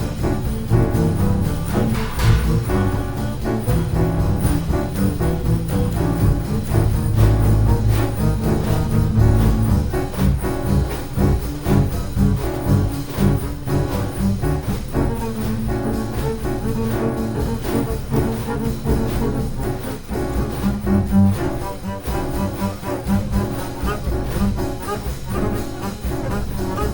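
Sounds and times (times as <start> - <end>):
drum and cymbal strikes: 0.0 - 22.4
double bass: 0.0 - 26.9
piano: 0.0 - 26.9.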